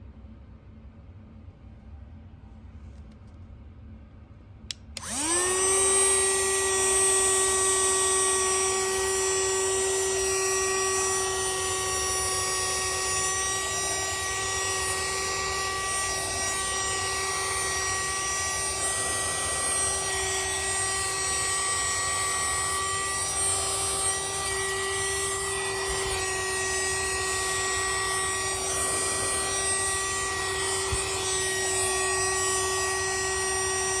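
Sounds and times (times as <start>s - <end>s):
handheld vacuum cleaner whine: 5.0s - 34.0s.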